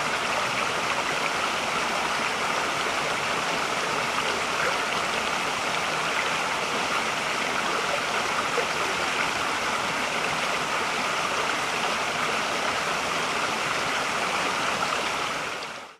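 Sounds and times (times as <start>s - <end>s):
stream rushing over rocks: 0.0s - 15.9s.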